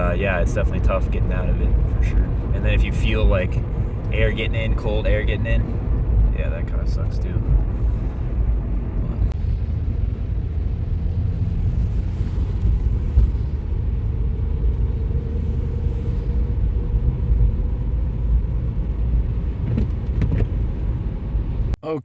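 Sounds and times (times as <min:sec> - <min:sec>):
car cabin rumble: 0:00.0 - 0:21.8.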